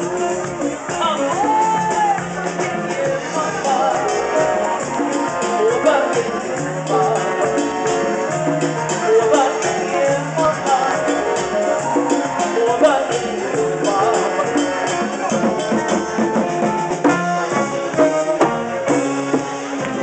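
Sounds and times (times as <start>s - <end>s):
drums: 0.0s - 20.0s
live band playing: 0.0s - 20.0s
shaken percussion: 0.0s - 20.0s.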